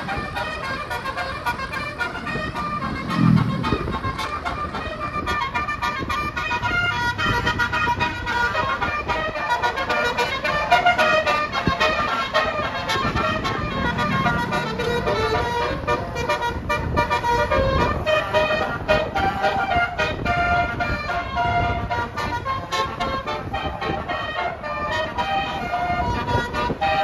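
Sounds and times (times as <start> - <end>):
multi-tone musical air horn: 0.0 - 27.0
road traffic rumble: 0.0 - 27.0.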